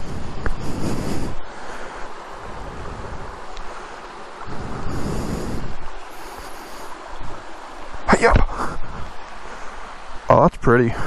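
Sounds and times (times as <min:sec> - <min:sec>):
steady rushing noise: 0:00.0 - 0:11.0
wind buffeting microphone: 0:00.0 - 0:11.0.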